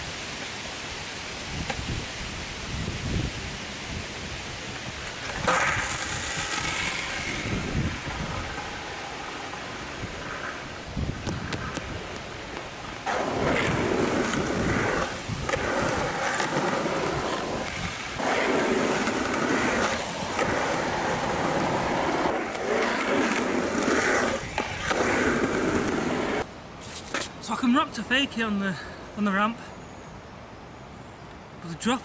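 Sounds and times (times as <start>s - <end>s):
skateboard wheels on concrete: 0.0s - 27.9s.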